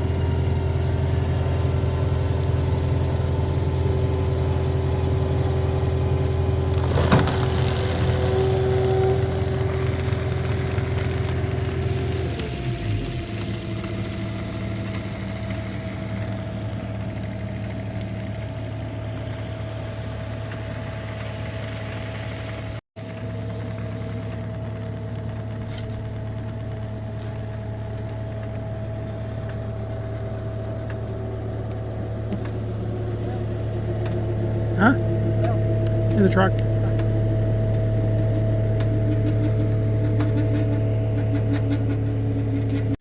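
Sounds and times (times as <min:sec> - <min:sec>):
engine running steadily: 0:00.0 - 0:43.0.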